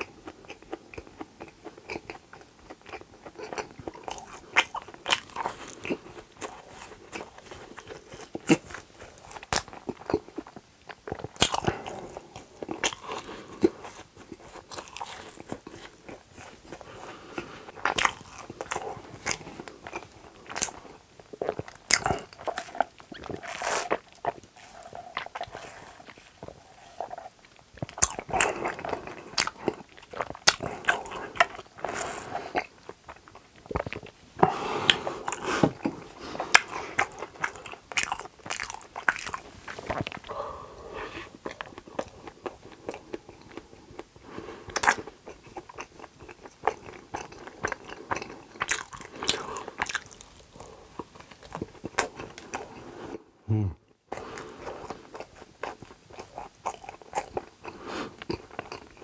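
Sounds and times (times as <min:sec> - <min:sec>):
biting and chewing donuts: 0:00.0 - 0:59.0.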